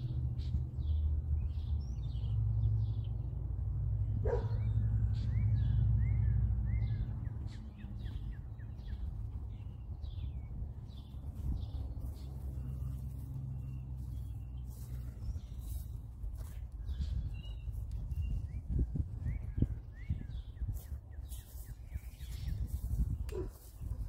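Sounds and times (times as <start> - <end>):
birds chirping and singing: 4.0 - 24.0.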